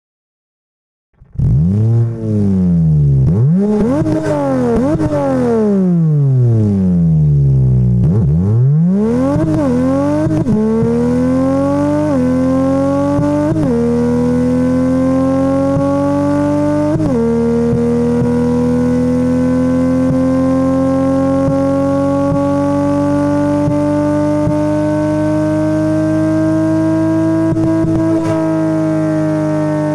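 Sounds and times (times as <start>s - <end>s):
car engine revving and accelerating: 1.2s - 29.9s.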